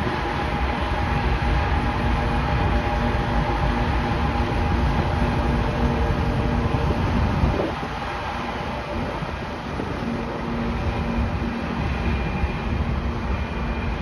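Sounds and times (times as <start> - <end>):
diesel locomotive engine drone: 0.0 - 14.0
heavy rumble of train: 0.0 - 14.0.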